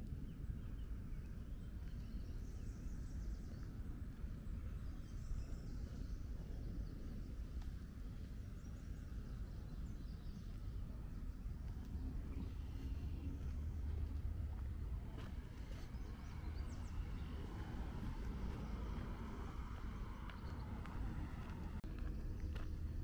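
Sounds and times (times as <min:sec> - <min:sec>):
steady low rumble: 0:00.0 - 0:23.0
birds chirping: 0:00.1 - 0:22.8.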